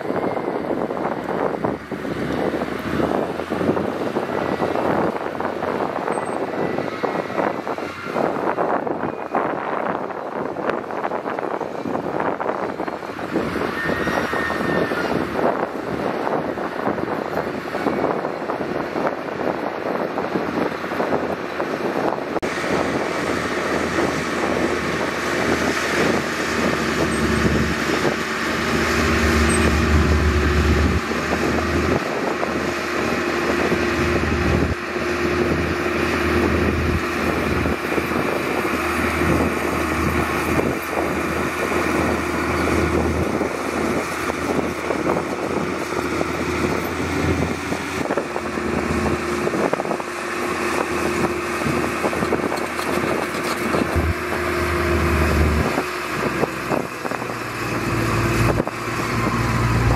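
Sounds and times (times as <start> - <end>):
constant rushing noise: 0.0 - 59.9
vehicle running: 0.0 - 59.9.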